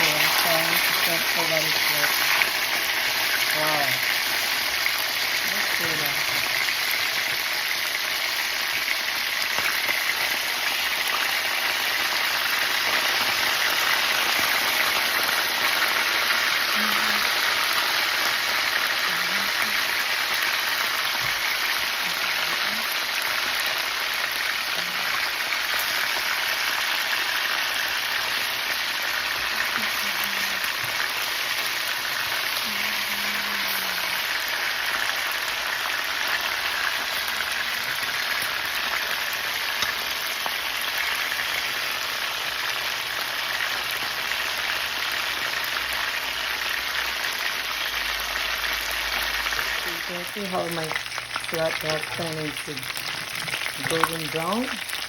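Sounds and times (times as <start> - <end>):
fish frying in hot oil: 0.0 - 55.0.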